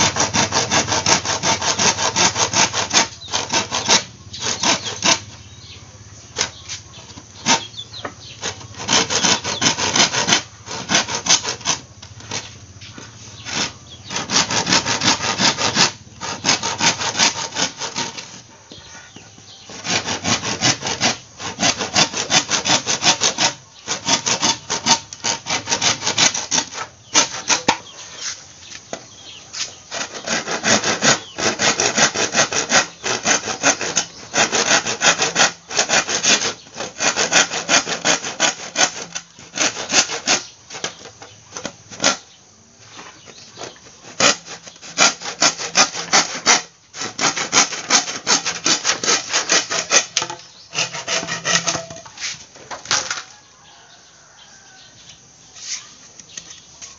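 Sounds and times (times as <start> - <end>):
hand saw cutting bamboo: 0.0 - 18.6, 19.6 - 28.9, 29.5 - 42.3, 43.6 - 53.9.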